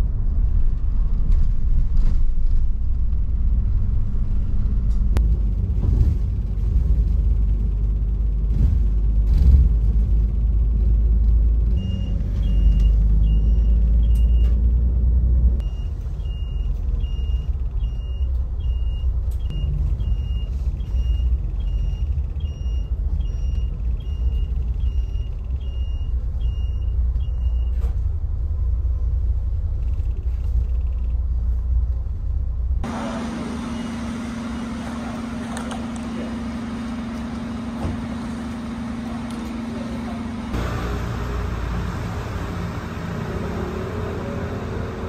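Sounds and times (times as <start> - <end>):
engine and road rumble: 0.0 - 45.0
steady engine hum: 0.0 - 45.0
street noise: 0.0 - 45.0.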